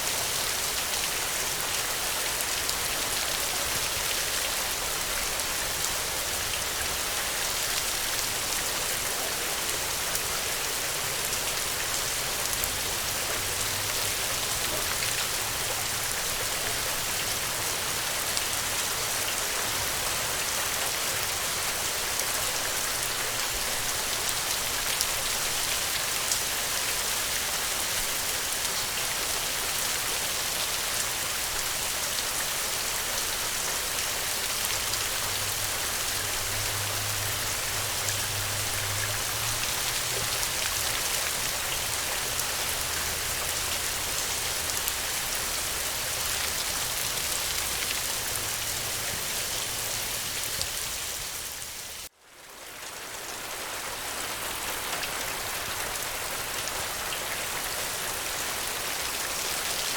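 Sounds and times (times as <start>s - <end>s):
rain falling on ground: 0.0s - 59.9s.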